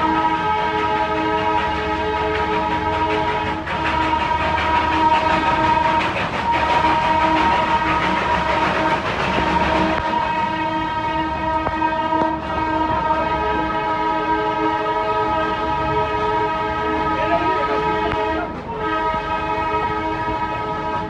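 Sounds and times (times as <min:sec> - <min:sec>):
rumble of train running: 0:00.0 - 0:21.0
train whistle: 0:00.0 - 0:21.0.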